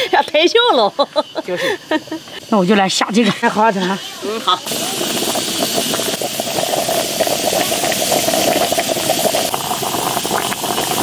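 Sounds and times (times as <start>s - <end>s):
broth bubbling in a pot: 0.0s - 11.0s.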